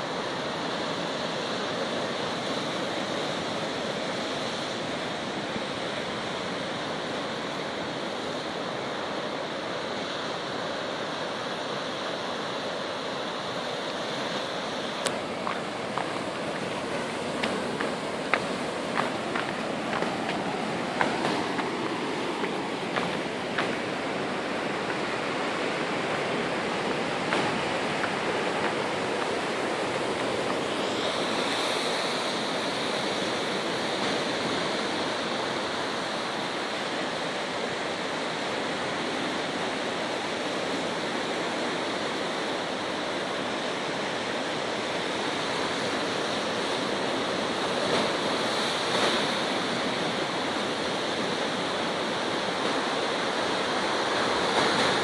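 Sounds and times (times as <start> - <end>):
sea surf on rocky shore: 0.0 - 55.0.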